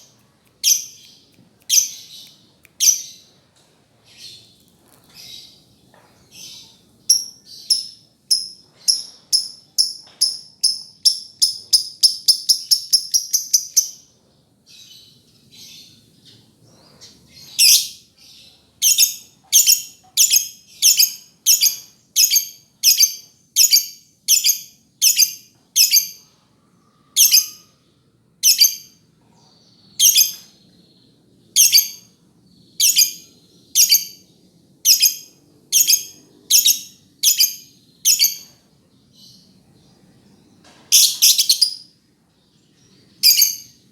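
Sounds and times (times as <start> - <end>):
bird chirping: 0.0 - 3.4, 4.1 - 26.2, 28.4 - 43.9.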